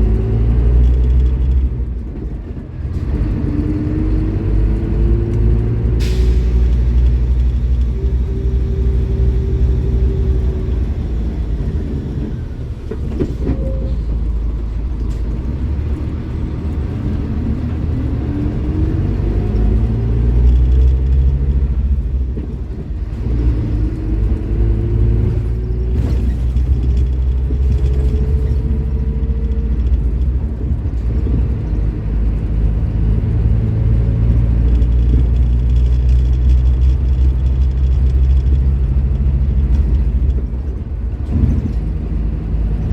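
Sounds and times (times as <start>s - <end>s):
bus diesel engine under load: 0.0s - 42.9s.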